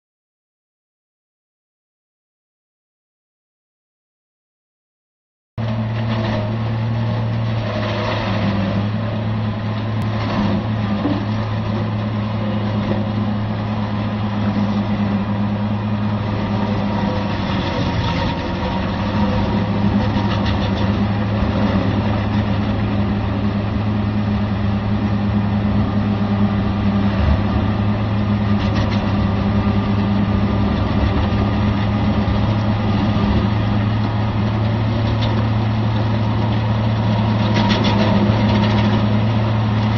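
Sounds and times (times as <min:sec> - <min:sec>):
tractor diesel engine running: 0:05.6 - 0:39.9.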